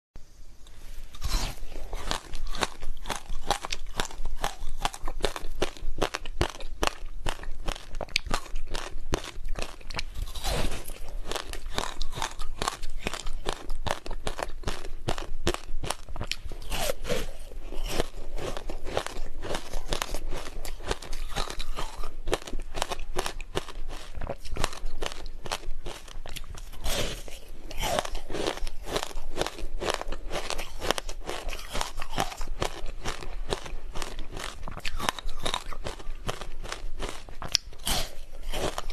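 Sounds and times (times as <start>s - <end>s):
ice being crunched and chewed: 1.1s - 38.9s.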